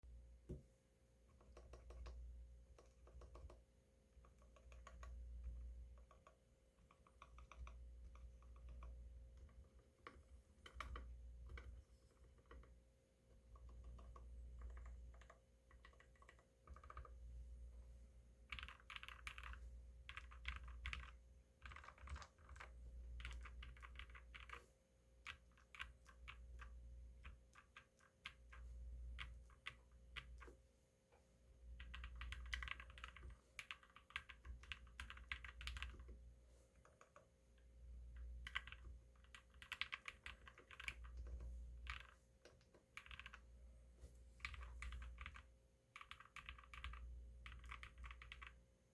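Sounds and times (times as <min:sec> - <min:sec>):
mechanical keyboard typing: 0:01.4 - 0:03.6, 0:04.2 - 0:12.7, 0:13.5 - 0:17.2, 0:18.5 - 0:24.6, 0:25.2 - 0:30.5, 0:31.8 - 0:36.2, 0:36.8 - 0:37.3, 0:38.2 - 0:43.4, 0:44.4 - 0:48.6.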